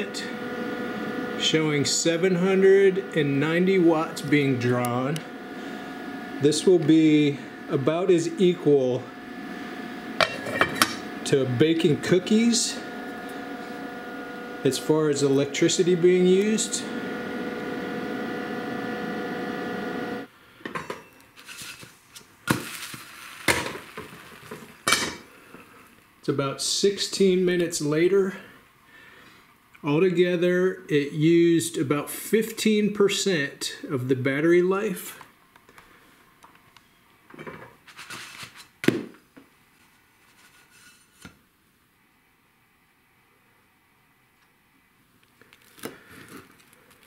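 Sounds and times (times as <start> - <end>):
steady hum with whine: 0.0 - 47.0.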